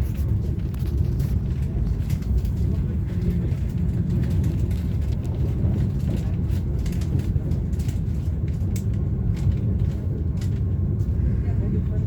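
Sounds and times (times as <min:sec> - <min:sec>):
light clicks and rattles: 0:00.0 - 0:11.1
train carriage rumble: 0:00.0 - 0:12.0.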